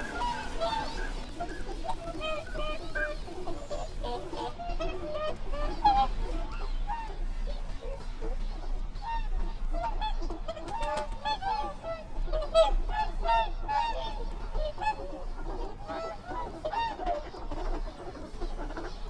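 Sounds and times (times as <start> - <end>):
swans honking: 0.0 - 19.0.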